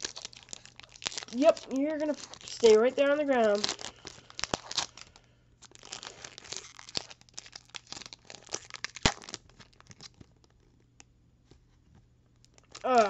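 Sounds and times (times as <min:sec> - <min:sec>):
foil wrapper crinkling and tearing: 0:00.0 - 0:10.8, 0:12.4 - 0:13.0.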